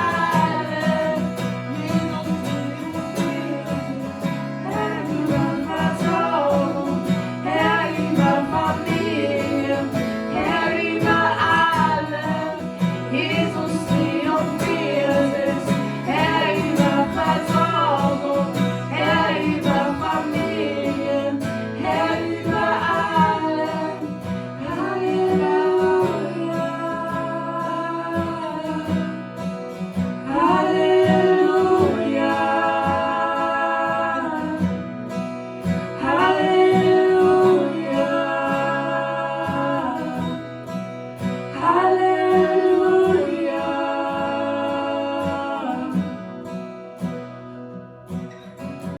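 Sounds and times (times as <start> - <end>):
person singing: 0.0 - 29.2, 30.2 - 34.8, 35.8 - 40.6, 41.5 - 46.2
guitar accompaniment: 0.0 - 49.0.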